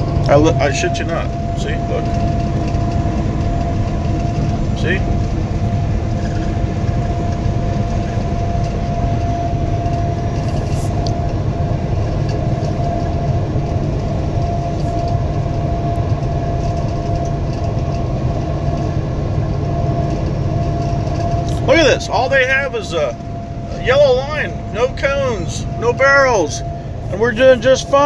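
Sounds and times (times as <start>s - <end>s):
engine and tyre rumble: 0.0s - 28.0s
thin constant whine: 0.0s - 28.0s.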